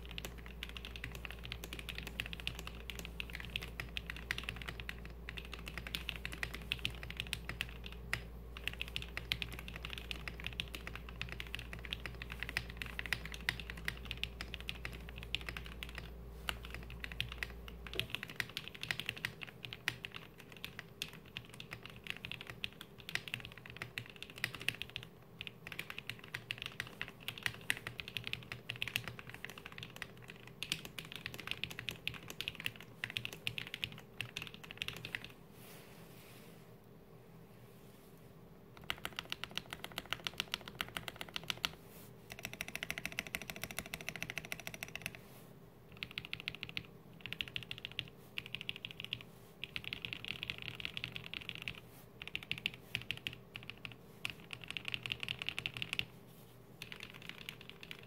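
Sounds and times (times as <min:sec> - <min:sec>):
fast typing on mechanical keyboard: 0:00.0 - 0:35.4, 0:38.8 - 0:45.2, 0:45.9 - 0:56.1, 0:56.8 - 0:58.0.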